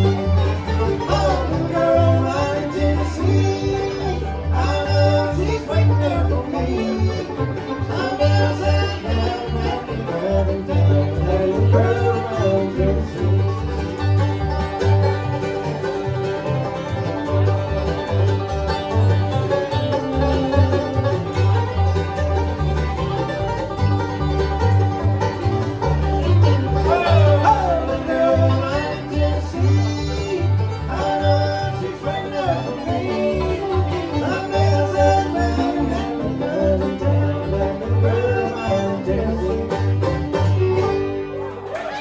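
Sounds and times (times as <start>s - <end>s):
acoustic guitar: 0.0s - 42.0s
banjo: 0.0s - 42.0s
mandolin: 0.0s - 42.0s
upright bass: 0.0s - 42.0s.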